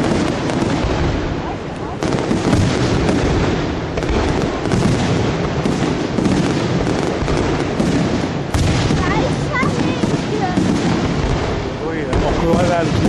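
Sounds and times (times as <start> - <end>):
fireworks bursts and crackles: 0.0 - 13.0.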